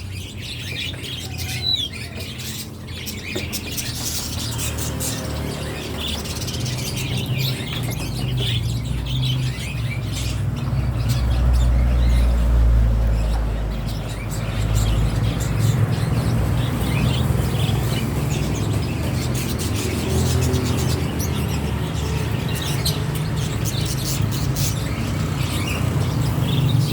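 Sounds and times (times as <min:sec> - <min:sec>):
bird chirps: 0:00.0 - 0:26.9.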